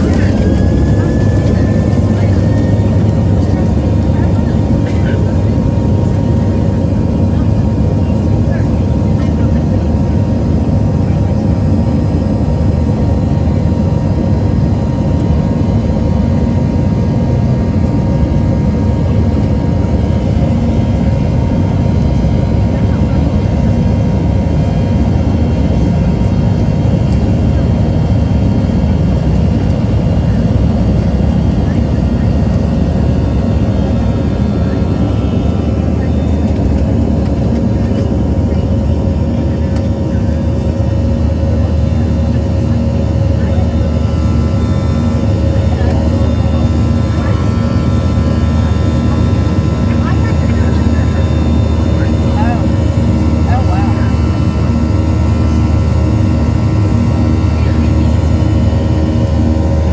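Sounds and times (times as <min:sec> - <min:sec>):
faint steady engine whine: 0:00.0 - 0:59.9
jet engines rumbling: 0:00.0 - 0:59.9.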